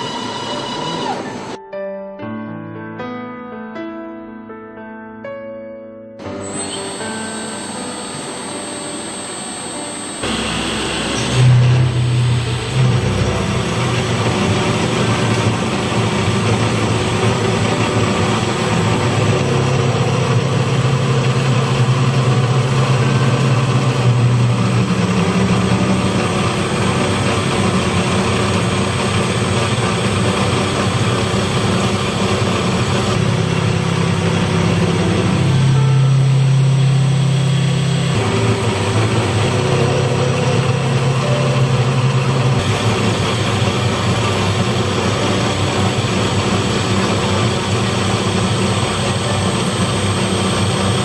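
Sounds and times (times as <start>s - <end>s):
large engine running: 6.4s - 51.0s
low hum: 6.4s - 51.0s.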